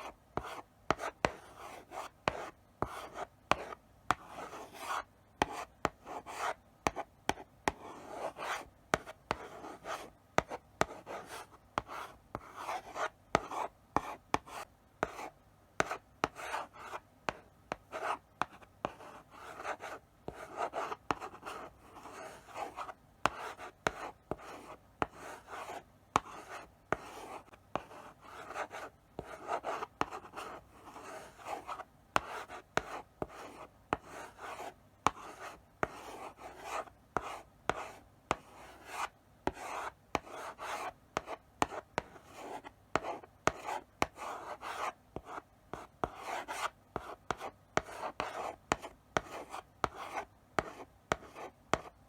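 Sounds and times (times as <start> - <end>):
chalk scratching on blackboard: 0.0 - 51.9
chalk tapping on board: 0.4 - 52.0.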